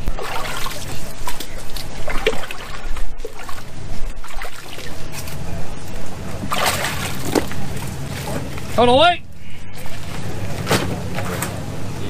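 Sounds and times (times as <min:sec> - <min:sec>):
water sloshing and splashing: 0:00.0 - 0:09.0, 0:09.8 - 0:11.6.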